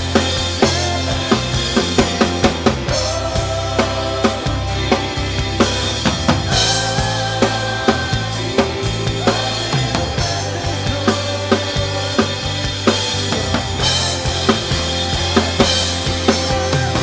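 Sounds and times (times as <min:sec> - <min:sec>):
bass notes: 0:00.0 - 0:17.0
drum kit playing groove: 0:00.0 - 0:17.0.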